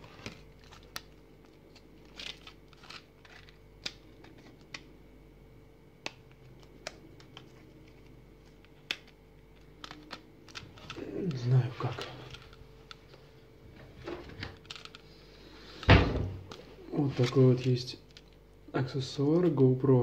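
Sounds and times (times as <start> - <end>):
plastic crinkling: 0.0 - 4.9, 6.1 - 18.4.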